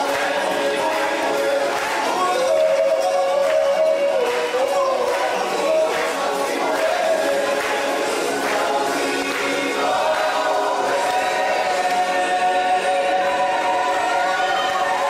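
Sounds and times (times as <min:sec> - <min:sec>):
choir singing: 0:00.0 - 0:15.0
show music: 0:00.0 - 0:15.0.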